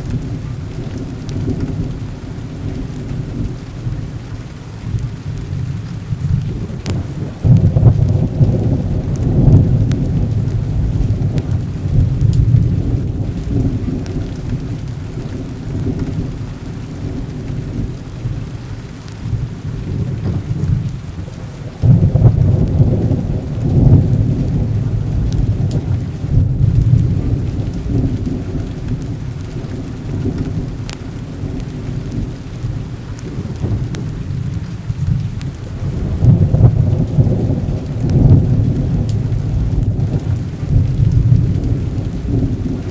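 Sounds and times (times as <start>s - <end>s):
heavy rain falling: 0.0s - 42.9s
rolling thunder: 0.0s - 42.9s.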